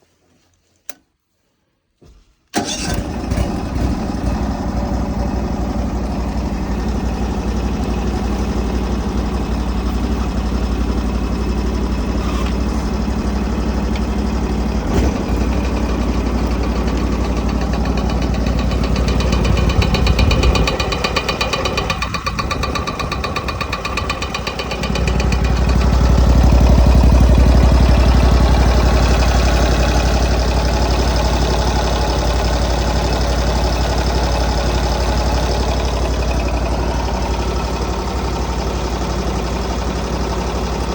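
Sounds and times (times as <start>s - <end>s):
snowblower engine running: 2.6s - 40.9s.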